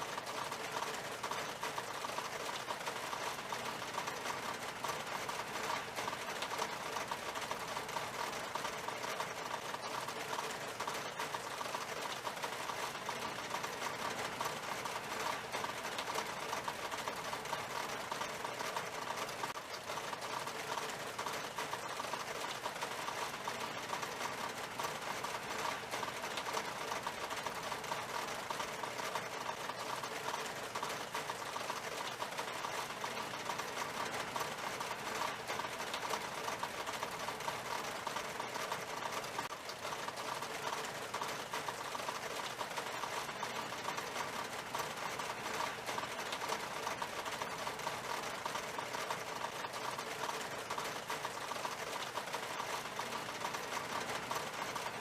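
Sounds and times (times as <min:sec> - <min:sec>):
rain on window glass: 0:00.0 - 0:55.0.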